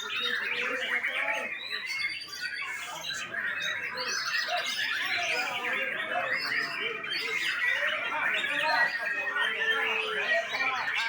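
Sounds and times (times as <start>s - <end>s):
bird singing warbles and trills: 0.0s - 11.0s.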